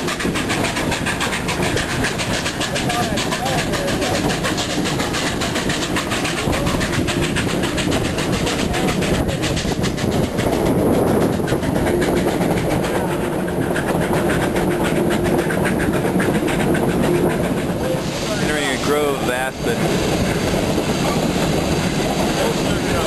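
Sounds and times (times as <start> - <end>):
train wheels clattering on rail: 0.0 - 23.0.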